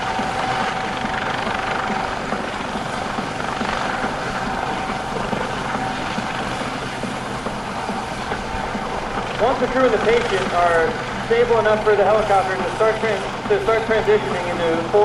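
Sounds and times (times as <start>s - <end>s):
helicopter rotors and engines: 0.0s - 15.0s
steady whine: 0.0s - 15.0s.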